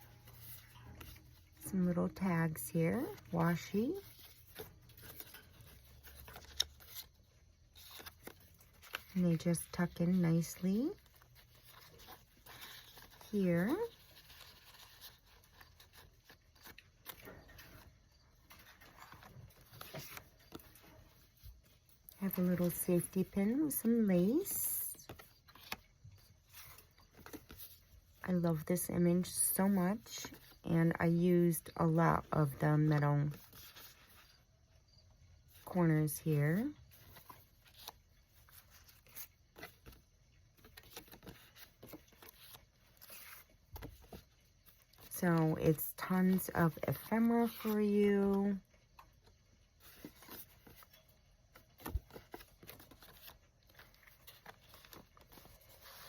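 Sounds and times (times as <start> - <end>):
paper rustling: 0.0 - 34.5, 35.5 - 56.0.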